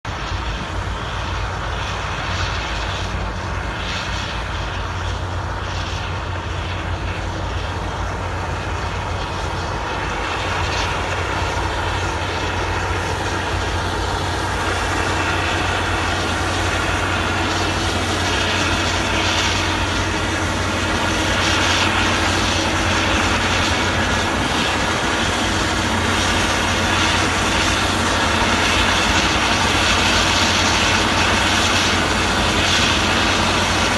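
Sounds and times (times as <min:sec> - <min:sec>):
diesel engine humming: 0:00.1 - 0:33.9.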